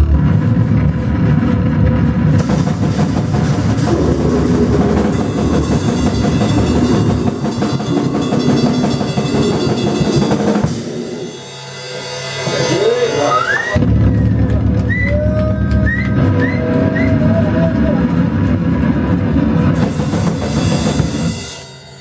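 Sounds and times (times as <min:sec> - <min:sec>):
dense wall of noise: 0:00.0 - 0:21.6
drum kit played fast: 0:00.0 - 0:22.0.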